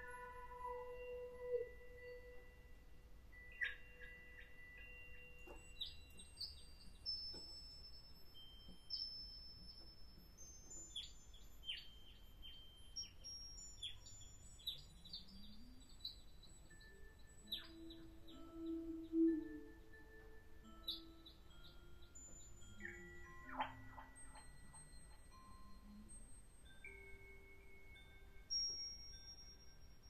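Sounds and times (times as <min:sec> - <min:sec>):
faint steady high tones: 0:00.0 - 0:30.0.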